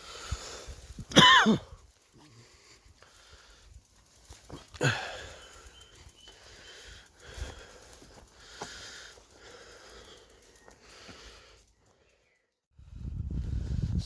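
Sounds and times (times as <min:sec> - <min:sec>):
person breathing: 0:00.0 - 0:01.0, 0:02.2 - 0:03.9, 0:04.6 - 0:14.0.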